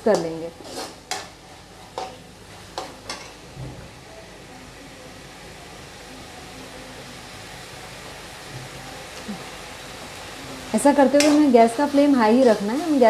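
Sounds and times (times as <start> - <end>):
food sizzling: 0.0 - 13.0.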